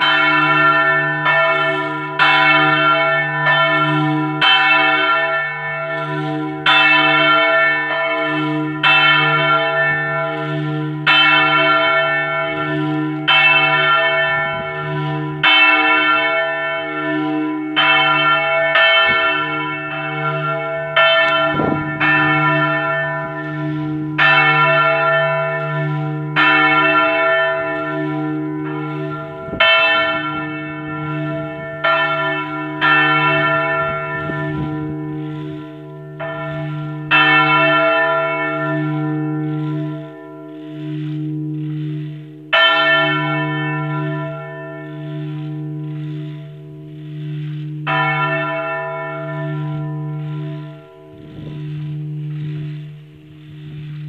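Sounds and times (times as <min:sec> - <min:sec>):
large church bell ringing: 0:00.0 - 0:54.0.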